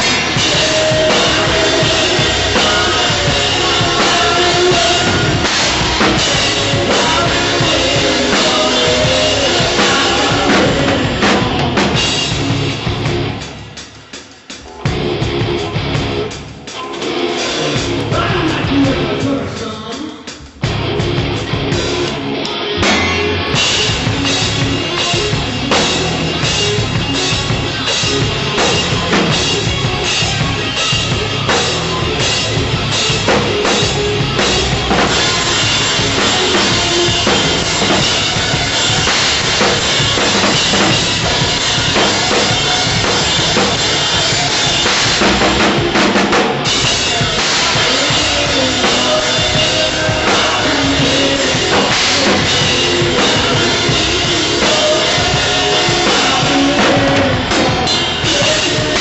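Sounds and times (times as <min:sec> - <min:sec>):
drum kit rock groove: 0:00.0 - 0:59.0.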